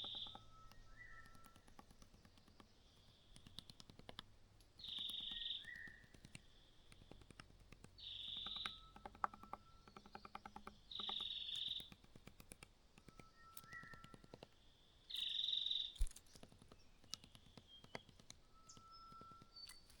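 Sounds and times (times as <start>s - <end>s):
soft clicking: 0.0s - 20.0s.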